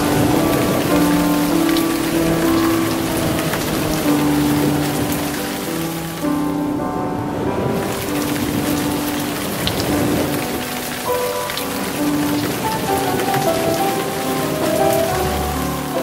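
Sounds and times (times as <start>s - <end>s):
dense patter and crackle: 0.0s - 6.6s, 7.5s - 16.0s
slow music with held notes: 0.0s - 16.0s.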